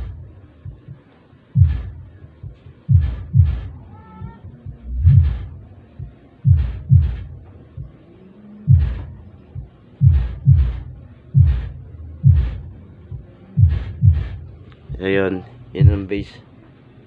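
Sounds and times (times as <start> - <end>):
deep subwoofer bass thumps: 0.0 - 15.2, 15.8 - 16.3.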